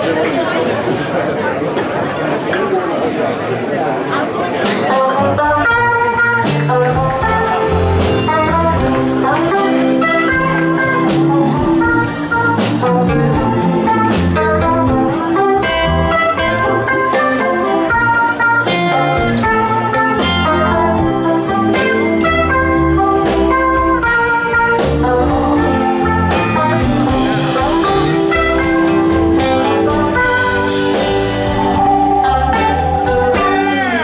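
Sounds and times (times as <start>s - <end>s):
drum kit: 4.6s - 34.0s
electric guitars: 4.6s - 34.0s
electric bass: 5.2s - 34.0s.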